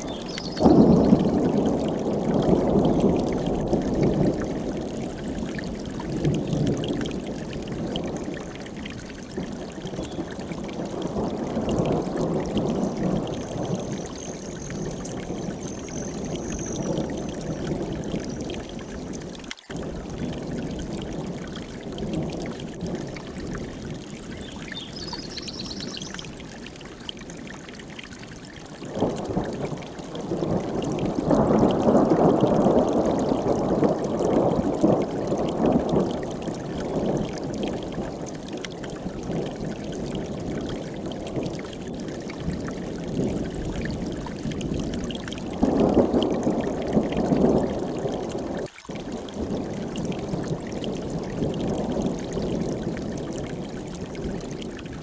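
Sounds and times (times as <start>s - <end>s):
mountain stream rushing: 0.0s - 1.8s, 2.4s - 53.0s.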